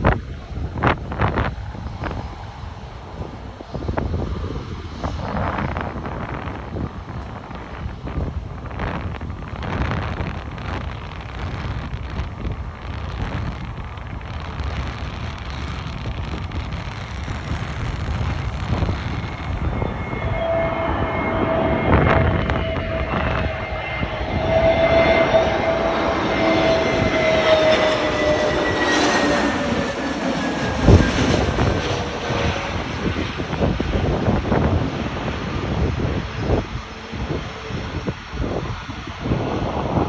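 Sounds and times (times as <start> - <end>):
jet engines passing overhead: 0.0 - 40.0.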